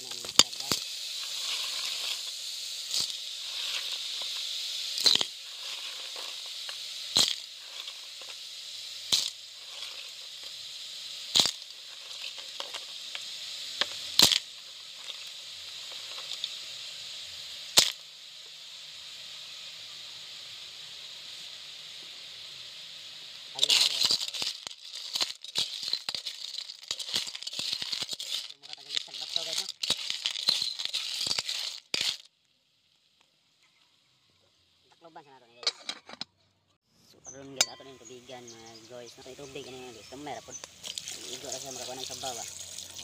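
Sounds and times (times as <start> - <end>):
sea snails sizzling in a pot: 0.0 - 35.6, 37.5 - 43.0.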